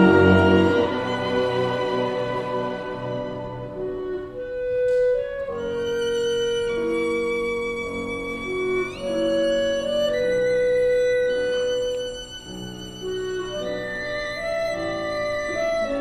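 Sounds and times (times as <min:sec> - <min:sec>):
bowed string accompaniment: 0:00.0 - 0:16.0
solo violin melody: 0:00.0 - 0:16.0.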